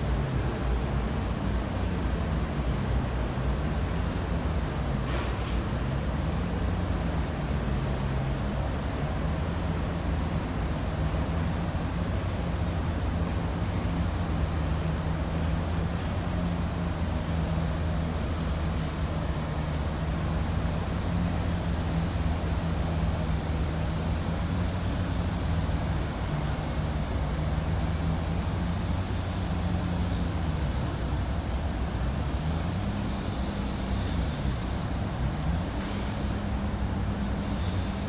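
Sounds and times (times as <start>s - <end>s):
ferry engine humming: 0.0s - 38.0s.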